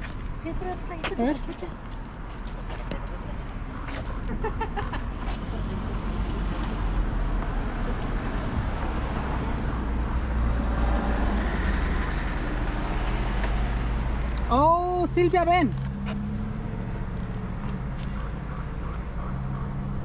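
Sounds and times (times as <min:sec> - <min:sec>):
car low rumble: 0:00.0 - 0:20.0.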